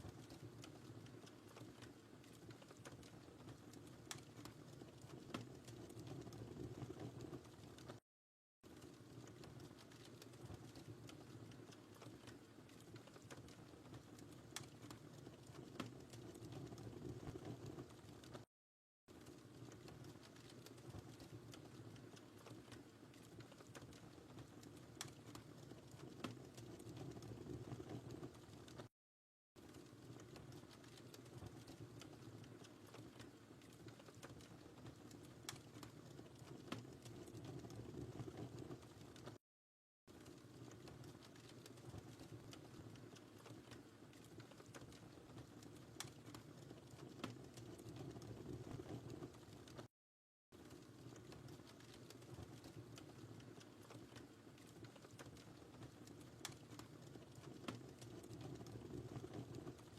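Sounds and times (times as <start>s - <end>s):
fire crackling and popping: 0.0s - 8.0s, 8.6s - 18.5s, 19.1s - 28.9s, 29.6s - 39.4s, 40.1s - 49.9s, 50.6s - 59.9s.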